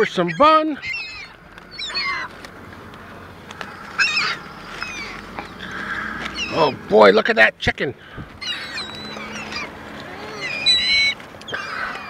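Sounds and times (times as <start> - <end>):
gulls crying: 0.0 - 12.0.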